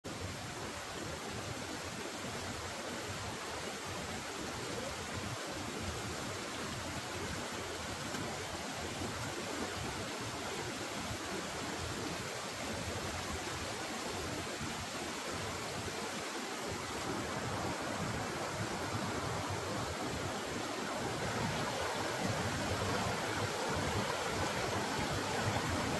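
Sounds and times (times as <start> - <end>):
river water flowing: 0.1 - 25.9.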